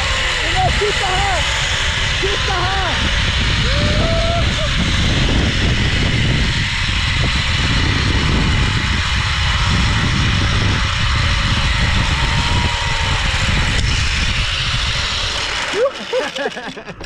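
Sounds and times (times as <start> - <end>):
wind rushing over microphone: 0.0 - 15.8
pulleys running along cable: 0.0 - 17.0.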